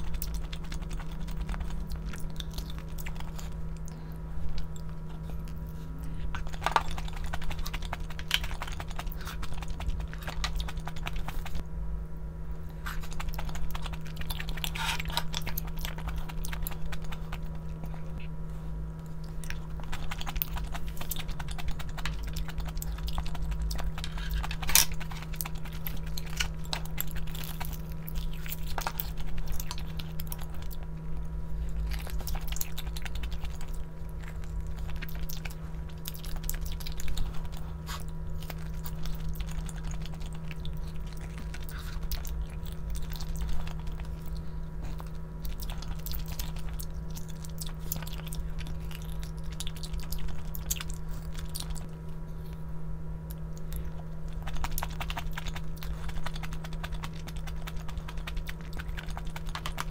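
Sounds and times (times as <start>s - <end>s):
chewing and crunching: 0.0s - 11.7s, 12.6s - 59.9s
steady low hum: 0.0s - 59.9s.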